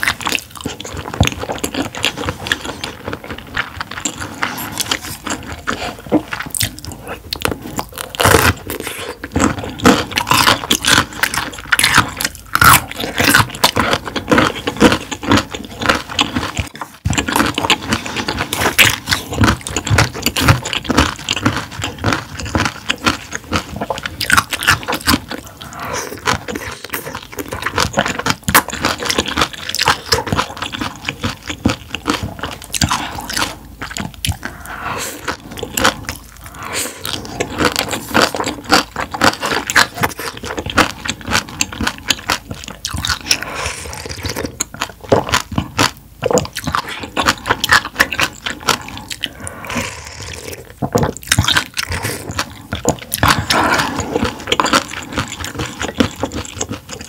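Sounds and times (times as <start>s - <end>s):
food crunching: 0.0s - 57.0s
mouth clicks and smacks: 0.0s - 57.0s
person chewing food: 0.0s - 57.0s.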